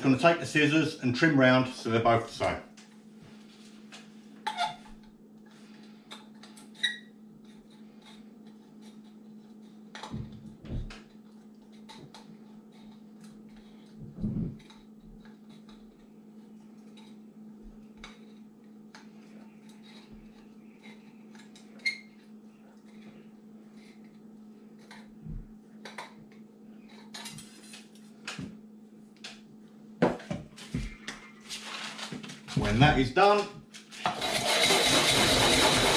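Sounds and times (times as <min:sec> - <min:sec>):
steady low hum: 0:00.0 - 0:34.2.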